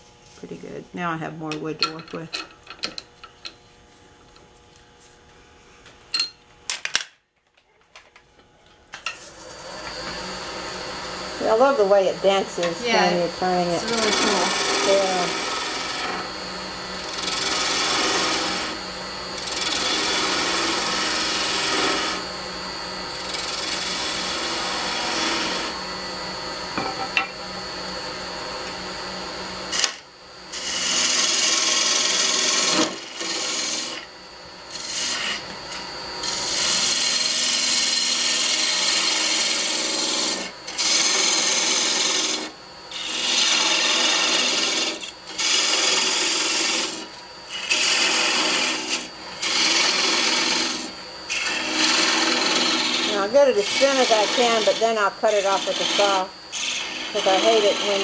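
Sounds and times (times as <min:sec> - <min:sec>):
lathe tool scraping spinning wood: 0:09.2 - 0:58.0.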